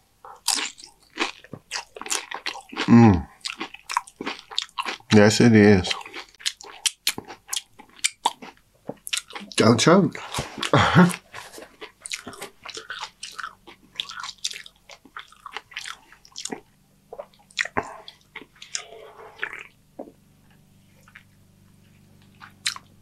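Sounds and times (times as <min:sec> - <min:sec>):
chewing crunchy chips: 0:00.3 - 0:05.2, 0:05.8 - 0:19.8, 0:20.5 - 0:23.0.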